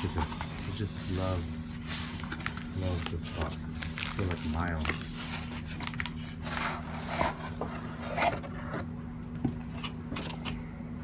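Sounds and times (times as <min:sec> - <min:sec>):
cardboard scraping: 0:00.0 - 0:08.9.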